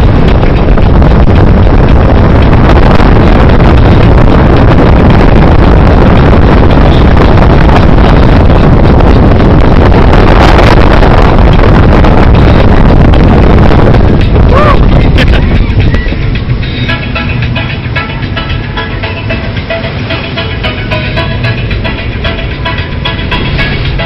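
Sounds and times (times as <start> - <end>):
heavy wind on microphone: 0.0 - 24.0
speedboat running fast: 0.0 - 24.0.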